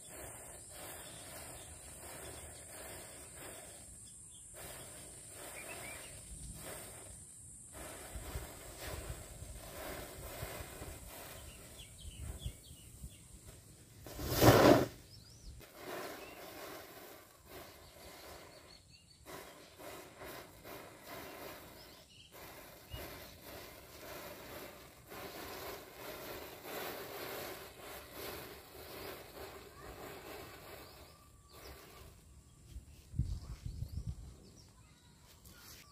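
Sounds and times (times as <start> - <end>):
matches crackling and hissing: 0.0 - 33.0.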